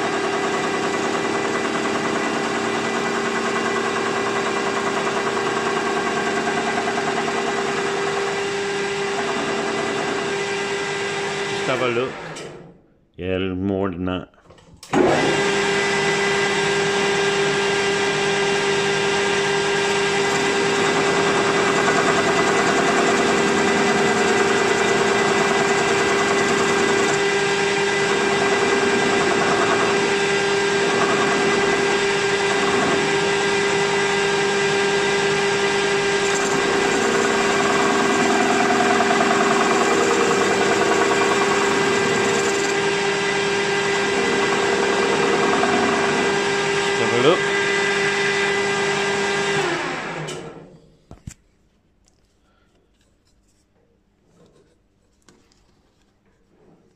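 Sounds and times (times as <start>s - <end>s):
metal lathe whining: 0.0s - 12.7s, 14.9s - 50.6s.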